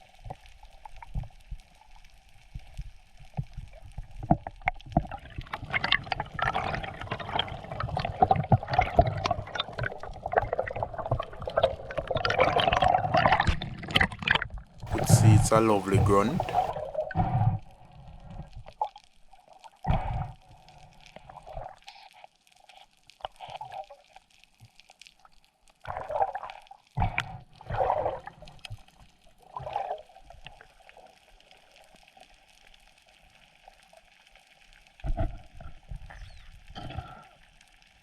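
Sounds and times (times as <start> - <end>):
faint murmur of water: 0.0 - 38.0
underwater bubbling and gurgling: 0.0 - 38.0.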